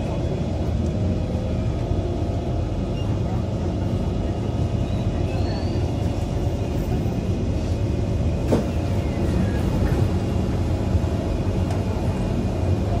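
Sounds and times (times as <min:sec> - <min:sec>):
low train equipment hum: 0:00.0 - 0:13.0.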